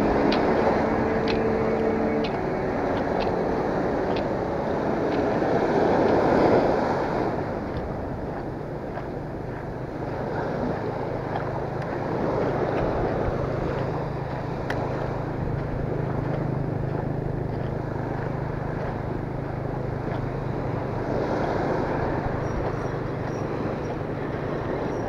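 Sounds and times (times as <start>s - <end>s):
small waves on sandy beach: 0.0s - 25.0s
steady low hum: 0.0s - 25.0s
wind buffeting microphone: 0.0s - 25.0s.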